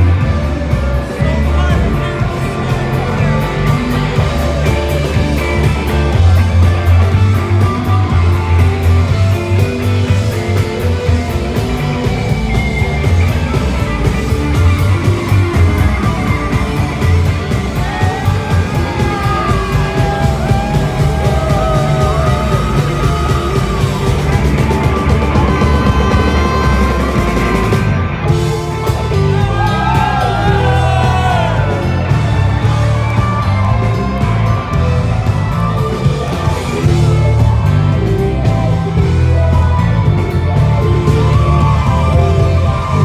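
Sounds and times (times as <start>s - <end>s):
fast drum beat: 0.0s - 43.0s
heavy bass: 0.0s - 43.0s
wavering lead guitar melody: 0.0s - 43.0s.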